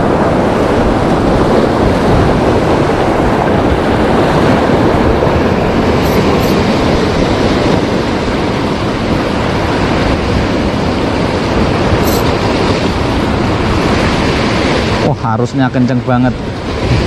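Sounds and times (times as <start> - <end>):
big waves breaking on shore: 0.0 - 17.0.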